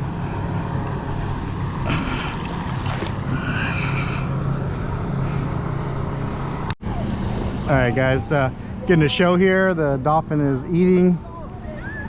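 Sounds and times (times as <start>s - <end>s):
low engine drone: 0.0s - 12.0s
water noise: 0.0s - 12.0s
wind: 0.0s - 12.0s.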